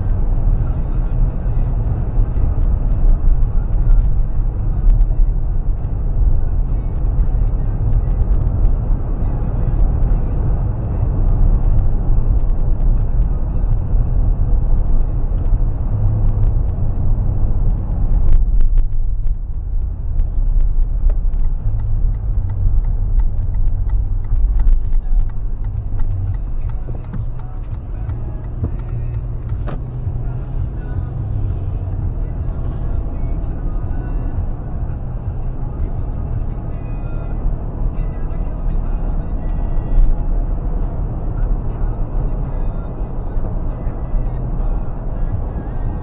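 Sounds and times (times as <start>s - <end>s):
road and engine rumble: 0.0s - 46.0s.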